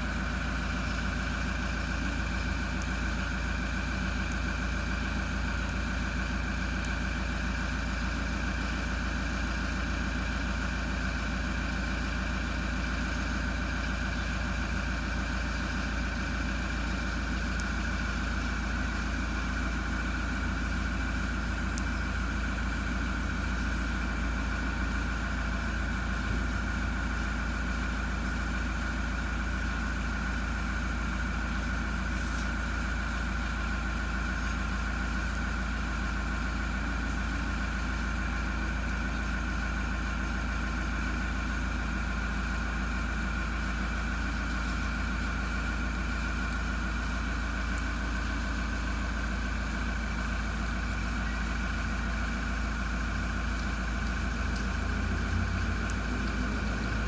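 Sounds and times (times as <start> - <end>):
mechanical drone with low hum: 0.0 - 57.0.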